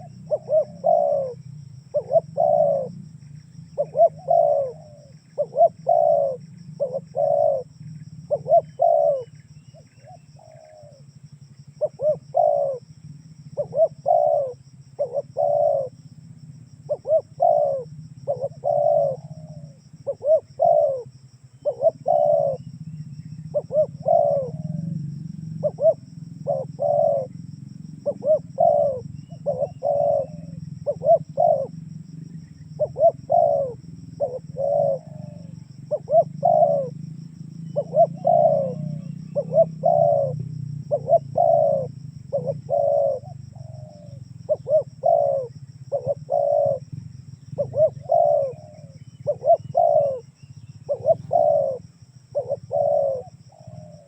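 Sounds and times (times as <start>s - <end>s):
dove cooing: 0.0s - 54.0s
steady low hum: 0.0s - 54.0s.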